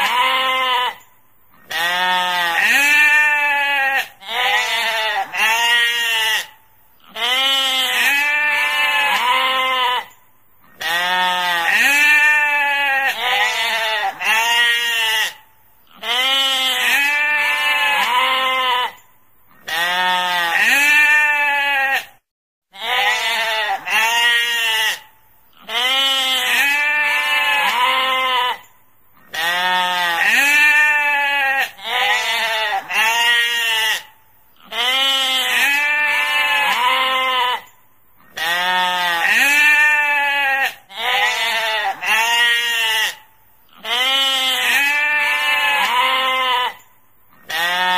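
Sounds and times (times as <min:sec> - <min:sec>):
sheep bleating: 0:00.0 - 0:47.9.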